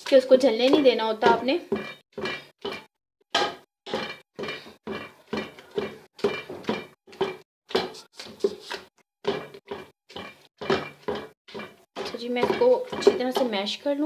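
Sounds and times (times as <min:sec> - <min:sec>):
masher knocking into food in pot: 0:00.7 - 0:08.0, 0:09.2 - 0:13.6.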